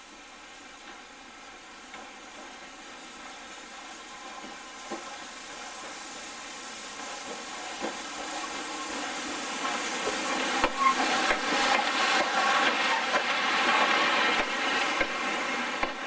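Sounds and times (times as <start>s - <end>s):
hiss: 0.0s - 16.0s
locomotive approaching: 1.8s - 16.0s.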